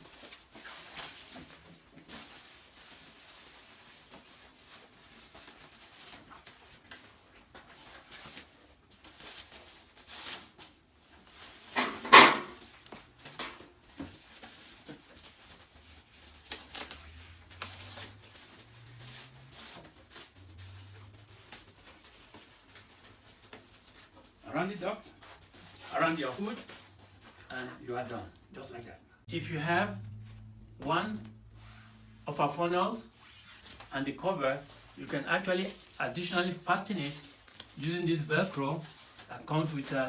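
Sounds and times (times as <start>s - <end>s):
fabric rustling: 0.0s - 40.0s.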